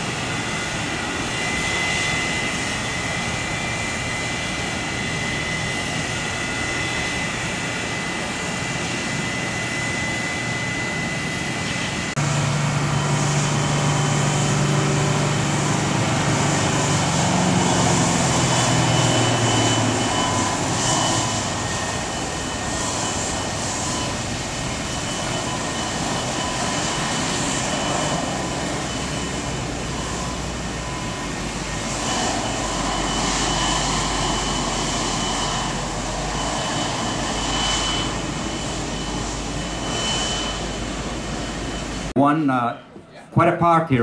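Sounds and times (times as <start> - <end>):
high engine whine: 0.0 - 42.9
jet engines running: 0.0 - 44.0.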